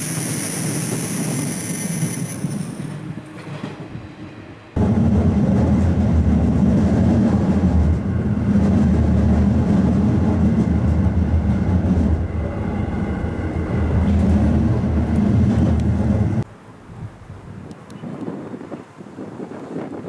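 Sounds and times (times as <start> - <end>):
train running rumble: 0.0 - 16.5.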